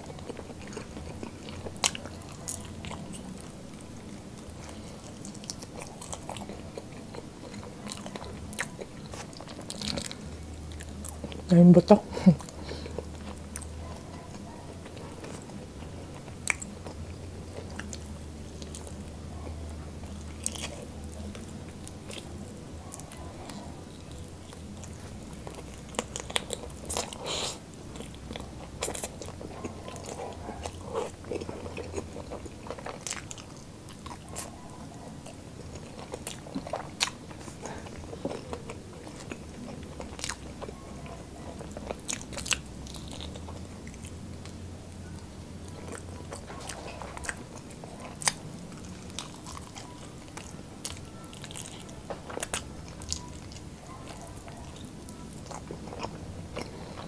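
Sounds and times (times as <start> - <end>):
person chewing crunchy food: 0.0 - 11.6, 12.3 - 57.0.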